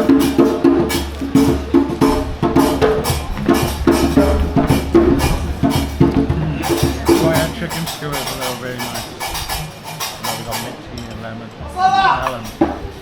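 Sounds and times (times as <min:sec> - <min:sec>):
music with percussive beat: 0:00.0 - 0:13.0.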